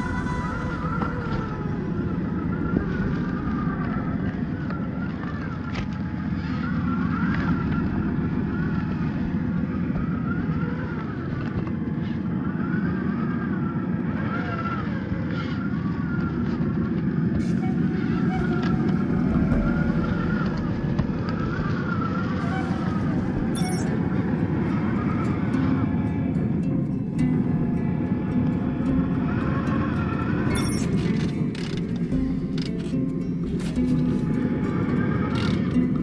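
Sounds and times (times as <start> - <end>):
steady low rumble: 0.0 - 14.2, 14.8 - 36.0
electric motor and gears whining: 0.0 - 36.0.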